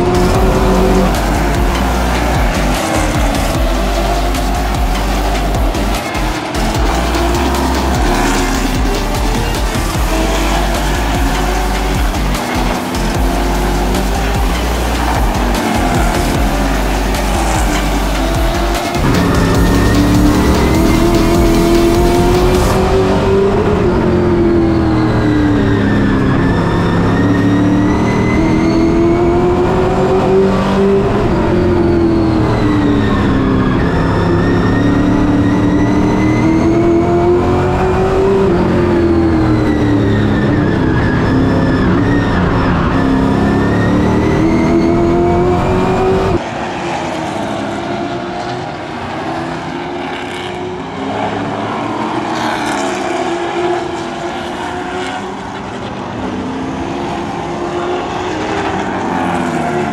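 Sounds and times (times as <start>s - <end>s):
race truck engine: 0.0s - 59.9s.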